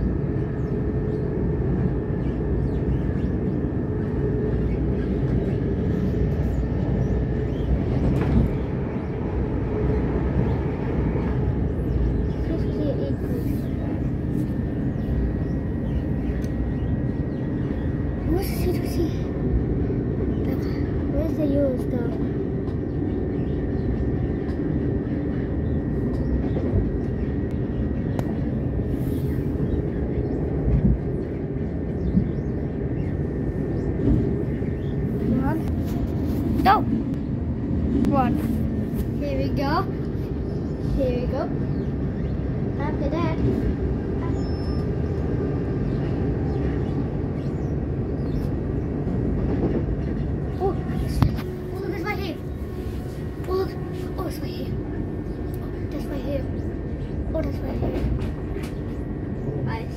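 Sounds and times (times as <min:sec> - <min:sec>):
wheels rumbling on track: 0:00.0 - 0:59.9.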